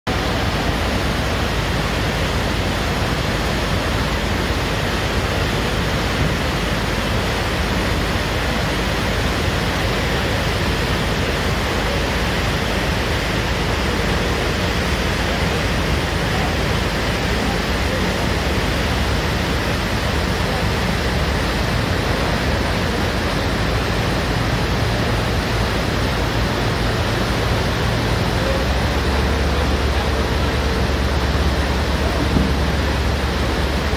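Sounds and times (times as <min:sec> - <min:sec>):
low machine hum: 0:00.1 - 0:33.9
roar of rushing floodwater: 0:00.1 - 0:33.9.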